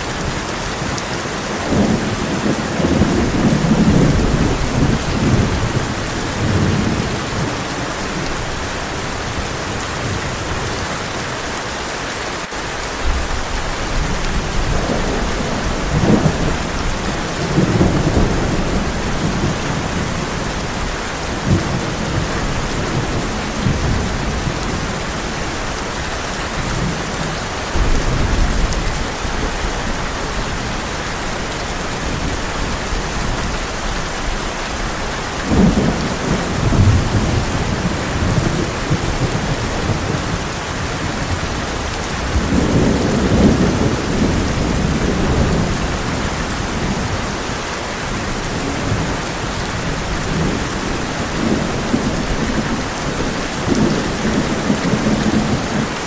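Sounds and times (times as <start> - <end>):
thunder rumbling: 0.0 - 11.2, 13.0 - 56.0
heavy rain on a tin roof: 0.0 - 56.0.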